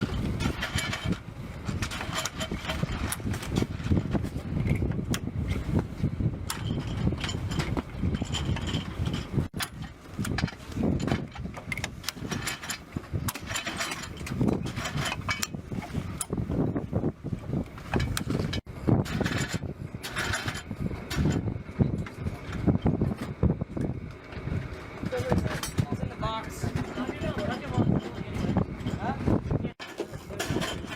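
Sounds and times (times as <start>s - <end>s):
metallic clicks and clanks: 0.0s - 5.6s, 6.5s - 16.4s, 17.8s - 23.4s, 26.6s - 30.9s
steady low rumble: 0.0s - 30.9s.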